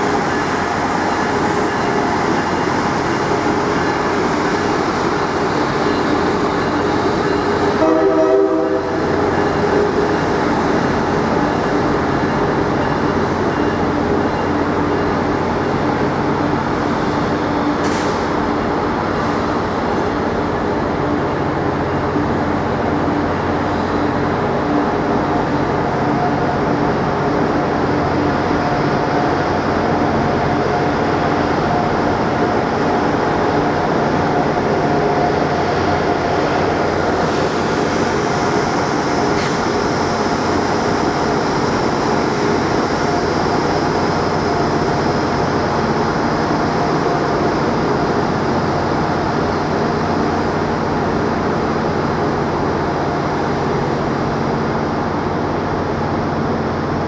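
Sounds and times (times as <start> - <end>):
train droning: 0.0 - 57.0.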